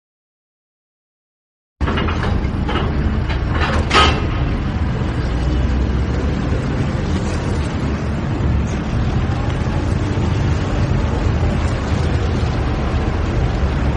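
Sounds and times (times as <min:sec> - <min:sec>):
factory machinery rumble: 0:01.8 - 0:13.9.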